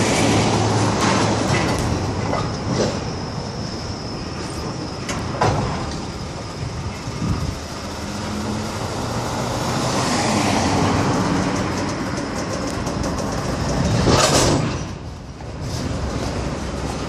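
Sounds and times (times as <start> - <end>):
rumble of train wheels on rails: 0.0 - 17.0.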